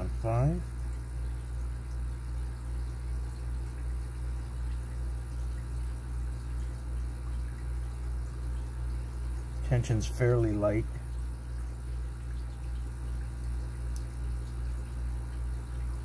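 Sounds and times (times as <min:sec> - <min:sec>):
motor hum with throb: 0:00.0 - 0:16.0.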